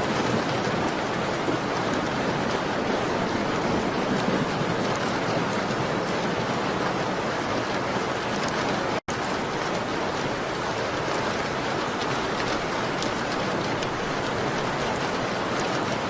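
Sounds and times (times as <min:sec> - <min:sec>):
rain on a window: 0:00.0 - 0:16.0.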